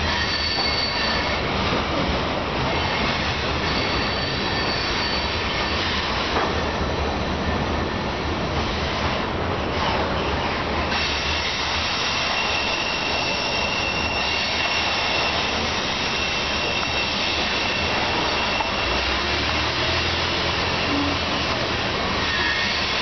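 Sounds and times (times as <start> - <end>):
high wheel squeal: 0.0 - 9.2, 9.8 - 23.0
roar of wheels on rail: 0.0 - 23.0.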